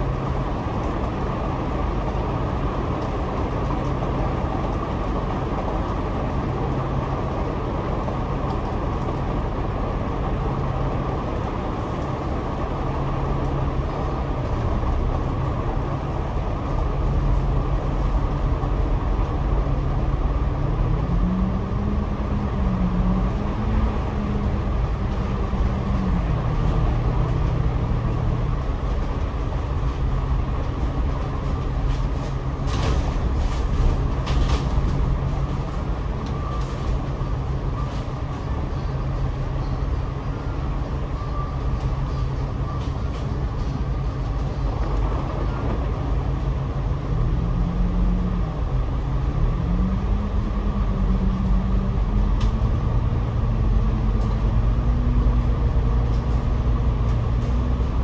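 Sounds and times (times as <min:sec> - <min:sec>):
bus diesel engine: 0:00.0 - 0:58.0
road and tyre rumble: 0:00.0 - 0:58.0.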